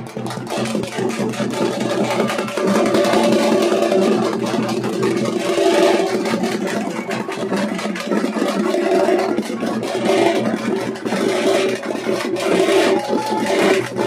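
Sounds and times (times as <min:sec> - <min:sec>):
drums beating: 0:00.0 - 0:14.0.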